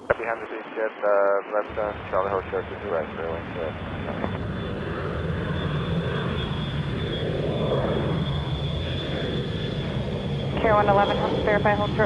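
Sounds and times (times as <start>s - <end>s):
jet engines rumbling: 0.0s - 12.0s
high-pitched engine whine: 1.7s - 12.0s.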